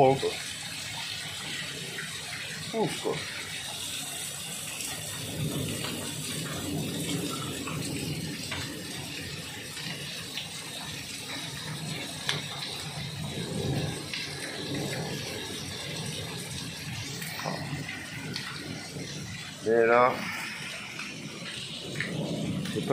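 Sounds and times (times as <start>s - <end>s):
floodwater rushing: 0.0s - 22.9s.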